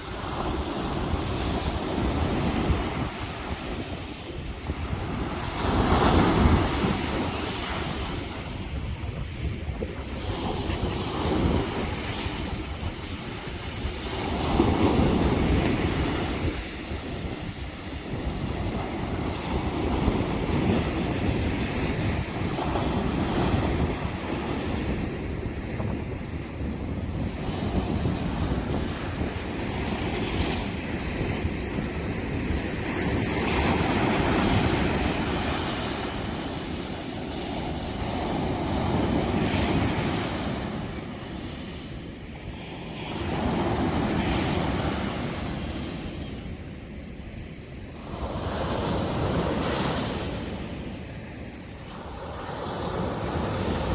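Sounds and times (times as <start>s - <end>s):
sea surf breaking: 0.0s - 53.9s
wind rumbling on microphone: 0.0s - 53.9s.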